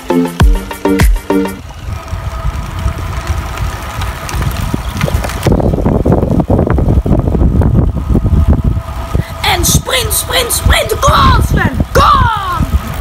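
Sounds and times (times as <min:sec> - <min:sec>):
wind rumbling on microphone: 0:01.6 - 0:13.0.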